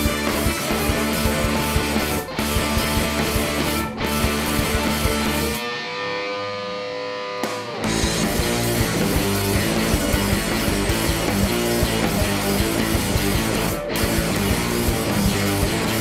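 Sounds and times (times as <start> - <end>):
guitar chord ringing: 0.0 - 16.0
live rock band playing: 0.0 - 16.0.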